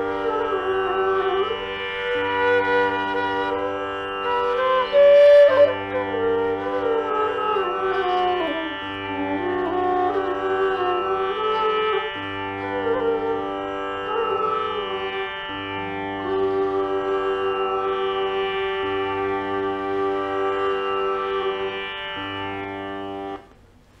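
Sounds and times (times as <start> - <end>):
bamboo flute melody: 0.0 - 23.5
tanpura drone: 0.0 - 23.5.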